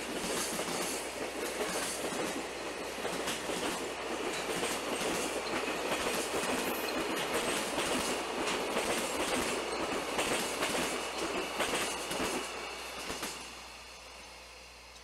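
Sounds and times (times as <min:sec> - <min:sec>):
train wheels clacking on rails: 0:00.0 - 0:13.6.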